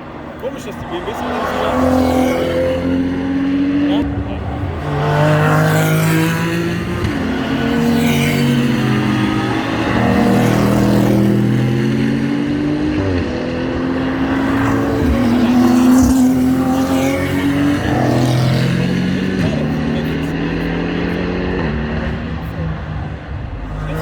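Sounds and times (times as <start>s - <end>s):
race cars passing at high revs: 0.0s - 24.0s.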